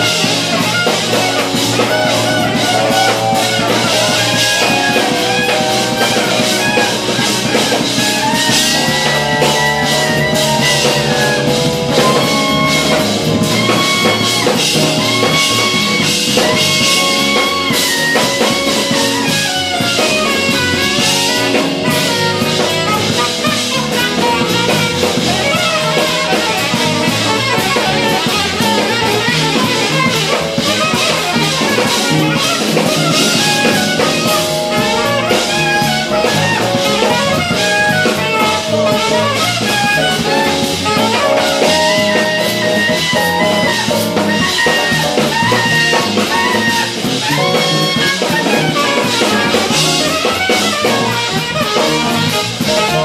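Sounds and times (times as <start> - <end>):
drum kit: 0.0 - 53.0
electric bass: 0.0 - 53.0
electric guitar: 0.0 - 53.0
saxophone: 0.0 - 53.0.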